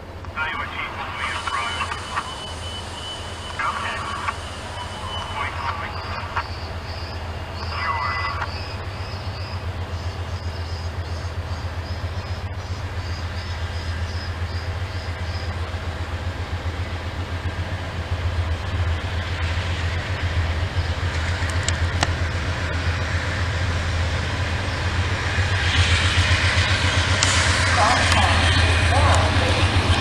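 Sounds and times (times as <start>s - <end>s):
freight train low drone: 0.0s - 30.0s
wheel-on-rail noise: 0.0s - 30.0s.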